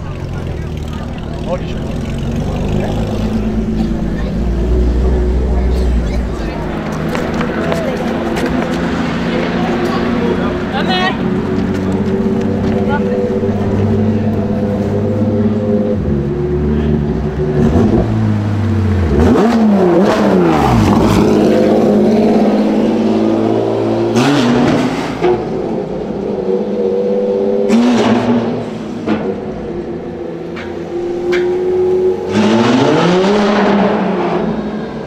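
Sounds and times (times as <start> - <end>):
sports car engine revving: 0.0 - 35.0.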